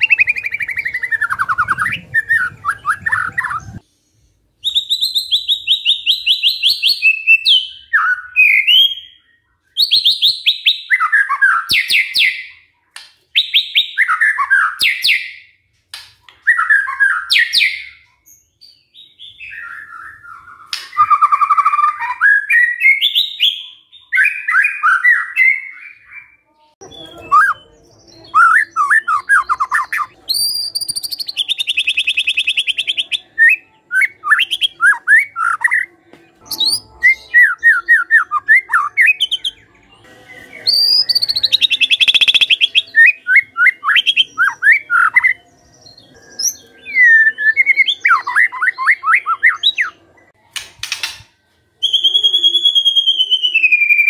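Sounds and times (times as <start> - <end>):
bird singing trilling phrases: 0.0 - 51.2, 51.8 - 54.0.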